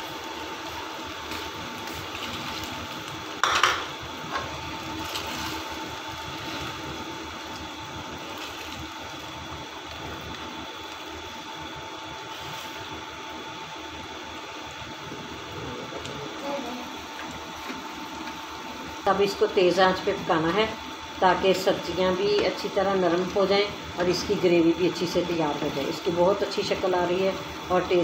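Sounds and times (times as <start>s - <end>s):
gravy bubbling and sizzling: 0.0s - 28.0s
steady hum: 0.0s - 28.0s.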